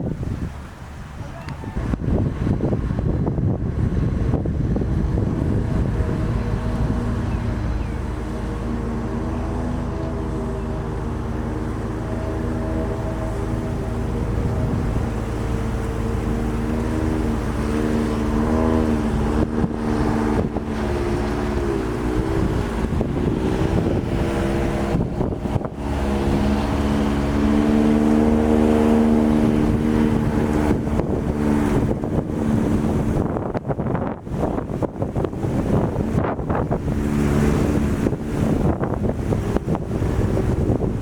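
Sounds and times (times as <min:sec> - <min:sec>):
barge engine droning: 0:00.0 - 0:41.0
wind rumbling on microphone: 0:00.0 - 0:41.0.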